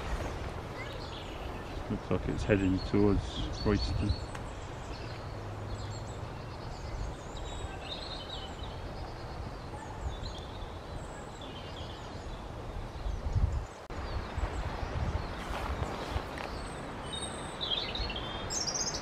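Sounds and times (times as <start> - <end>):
birds chirping and trilling: 0.0 - 19.0.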